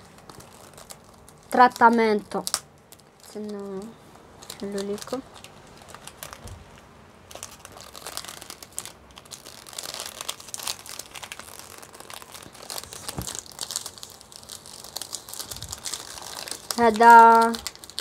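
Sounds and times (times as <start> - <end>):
cellophane wrap crinkling: 0.0 - 18.0.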